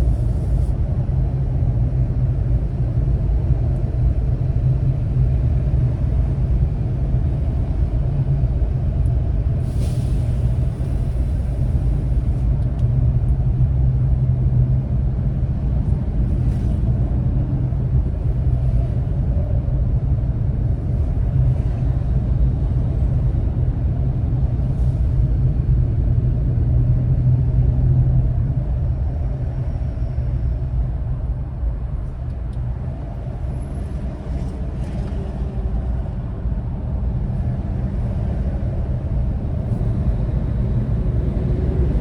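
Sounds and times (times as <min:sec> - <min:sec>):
vehicle engine and road noise: 0:00.0 - 0:42.0.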